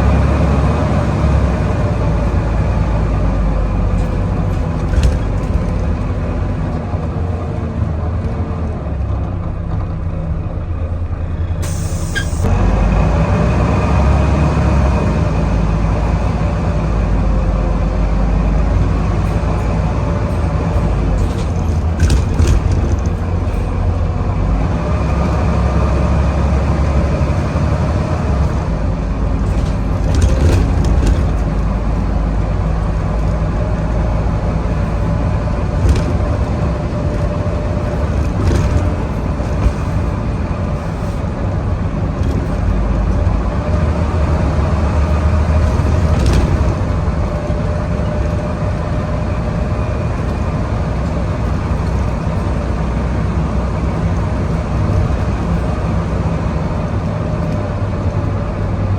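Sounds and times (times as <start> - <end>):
bus body knocks and rattles: 0.0 - 10.3, 16.2 - 58.9
bus diesel engine accelerating: 0.0 - 58.9.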